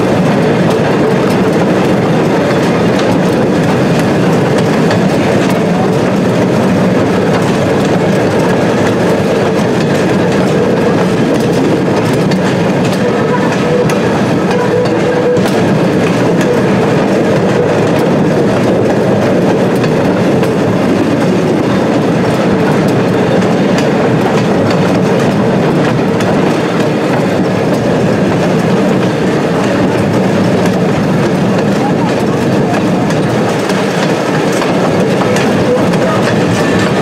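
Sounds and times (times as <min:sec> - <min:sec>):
train wheels on rail: 0:00.0 - 0:37.0
clicks over rail joints: 0:00.2 - 0:37.0.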